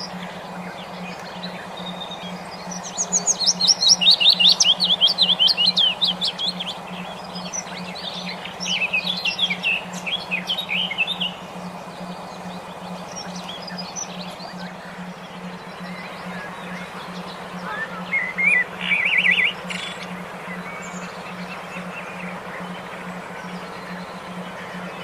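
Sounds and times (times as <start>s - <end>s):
low pulsing hum: 0.0s - 25.0s
songbird trilling: 0.0s - 25.0s.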